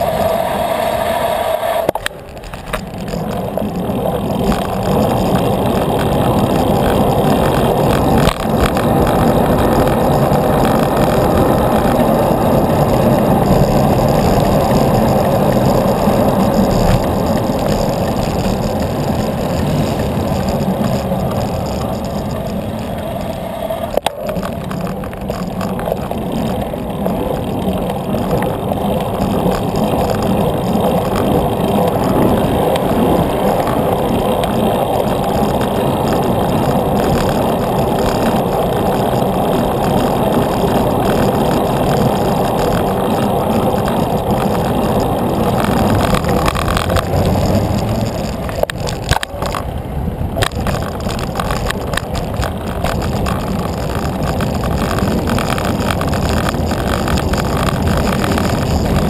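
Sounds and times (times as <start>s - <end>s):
rumbling wind and road noise: 0.0s - 59.0s.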